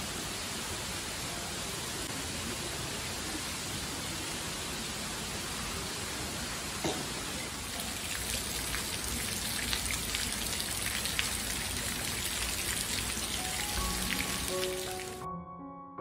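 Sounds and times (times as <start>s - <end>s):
heavy rain on patio: 0.0s - 15.3s.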